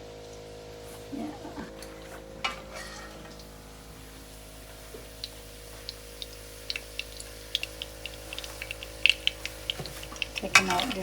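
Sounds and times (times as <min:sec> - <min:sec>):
steady low hum: 0:00.0 - 0:11.0
oil popping and crackling: 0:01.7 - 0:11.0.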